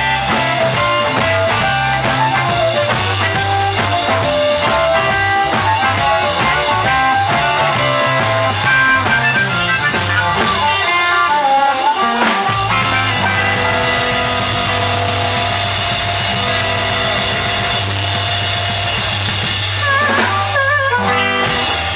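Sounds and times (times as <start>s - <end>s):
amplified harmonica: 0.0s - 21.9s
bass guitar: 0.0s - 21.9s
drum kit: 0.0s - 21.9s
electric guitar: 0.0s - 21.9s.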